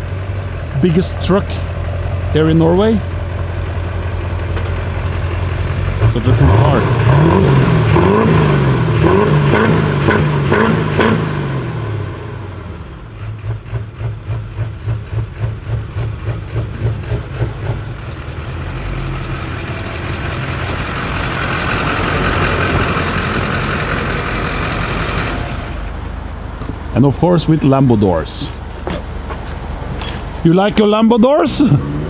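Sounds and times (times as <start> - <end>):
diesel truck engine revving: 0.0 - 32.0.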